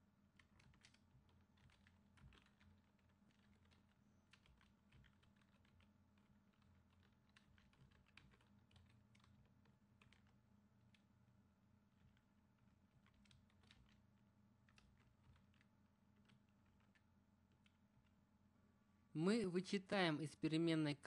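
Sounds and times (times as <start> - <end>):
faint low hum: 0.0 - 21.0
typing on computer keyboard: 0.3 - 11.1, 11.9 - 18.2.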